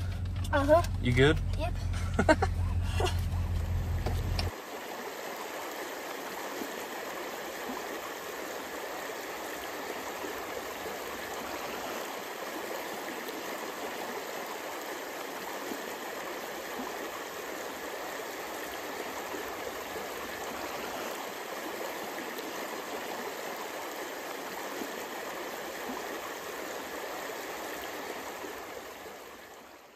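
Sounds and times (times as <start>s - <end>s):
flowing river water: 0.0s - 29.9s.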